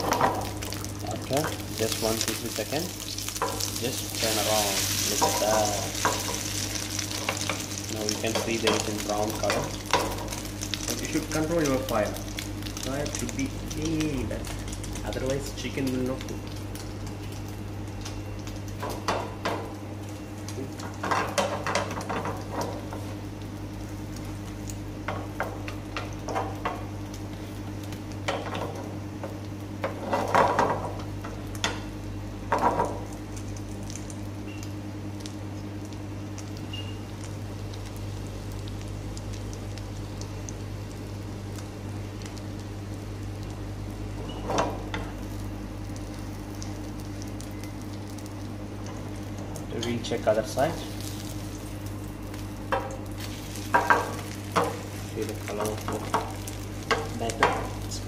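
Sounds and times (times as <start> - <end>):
chicken sizzling in oil: 0.0 - 31.9, 32.6 - 58.0.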